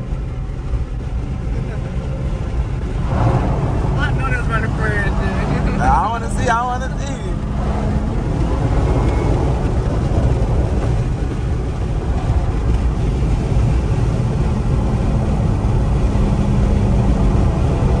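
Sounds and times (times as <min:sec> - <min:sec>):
car engine and road rumble: 0:00.0 - 0:18.0
faint engine tone: 0:00.0 - 0:18.0.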